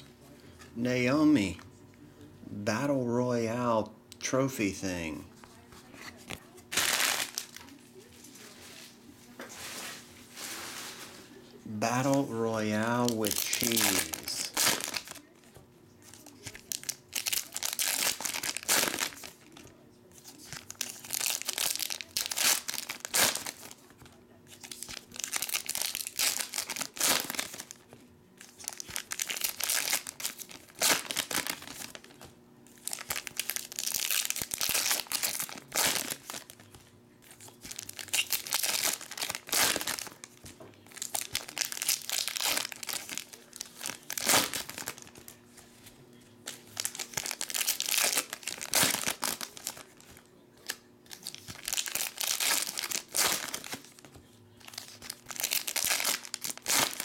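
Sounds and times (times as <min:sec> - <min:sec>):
foil wrappers crinkling and tearing: 0:06.7 - 0:08.9, 0:09.6 - 0:15.3, 0:16.0 - 0:57.0.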